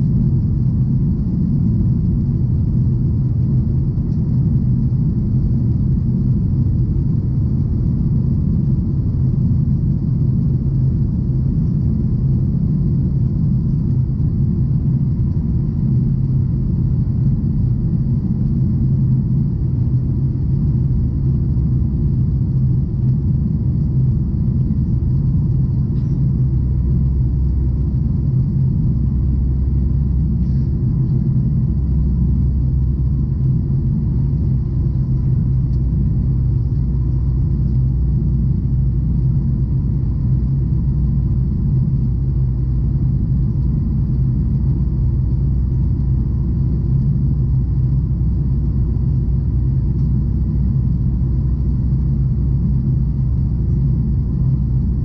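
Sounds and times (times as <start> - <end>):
deep hum: 0.0 - 55.0
jet engine rumble in cabin: 0.0 - 55.0.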